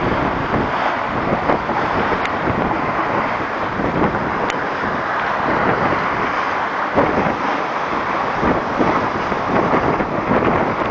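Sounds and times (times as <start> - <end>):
water rushing along hull: 0.0 - 10.9
wind on microphone: 0.0 - 10.9.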